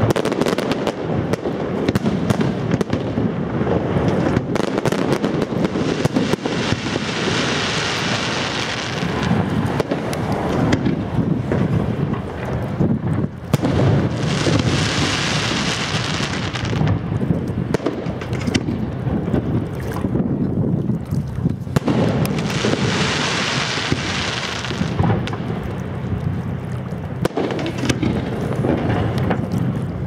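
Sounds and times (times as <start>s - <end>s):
firework bursts and bangs: 0.0s - 20.4s, 21.7s - 26.1s, 27.2s - 30.0s
continuous rumble: 0.0s - 22.9s, 24.0s - 30.0s.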